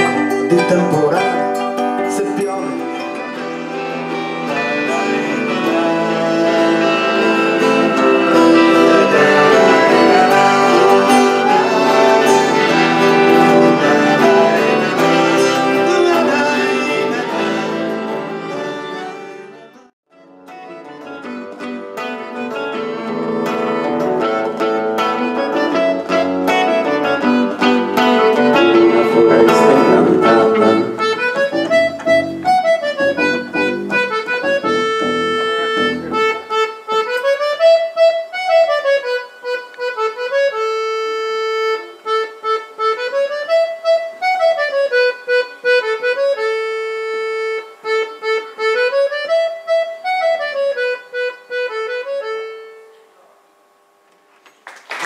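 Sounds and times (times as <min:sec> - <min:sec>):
acoustic band music: 0:00.0 - 0:53.0
accordion playing: 0:00.0 - 0:53.1.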